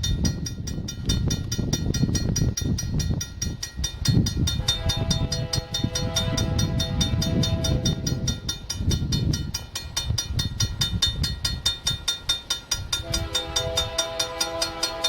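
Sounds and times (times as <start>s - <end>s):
passing train rumble: 0.0s - 15.0s
railroad crossing bell ringing: 0.0s - 15.0s.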